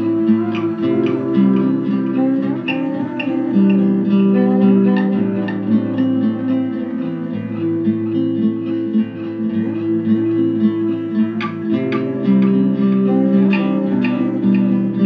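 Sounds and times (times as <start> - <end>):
instrumental music with plucked notes: 0.0 - 15.0.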